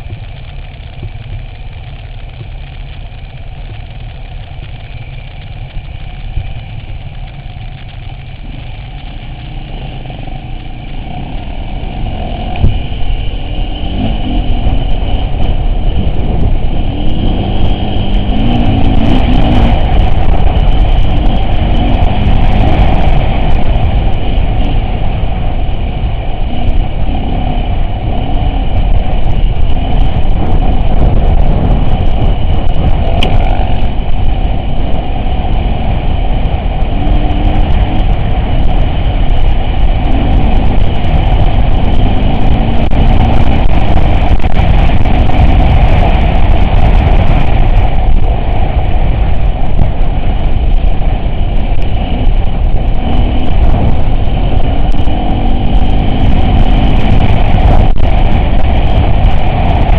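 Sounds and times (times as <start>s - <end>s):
off-road vehicle engine rumble: 0.0s - 59.9s.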